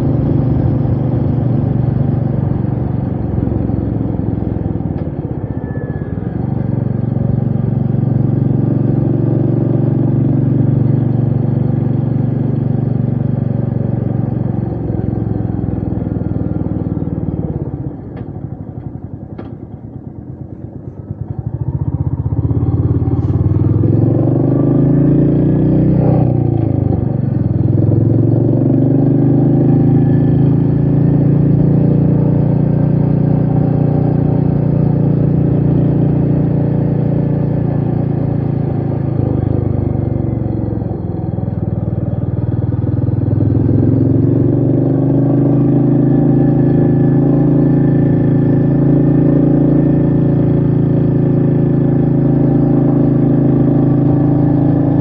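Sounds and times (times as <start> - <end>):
single-cylinder motorcycle engine: 0.0 - 55.0.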